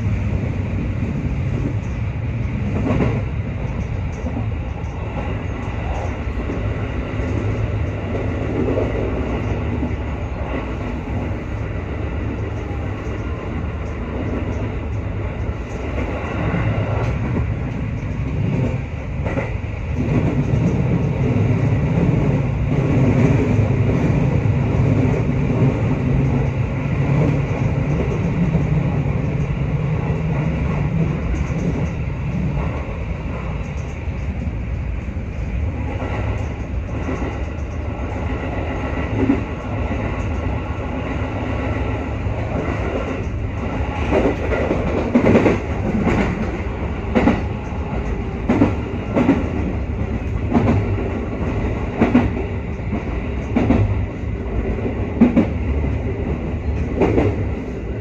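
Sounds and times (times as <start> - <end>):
train wheel-on-rail running noise: 0.0 - 58.0.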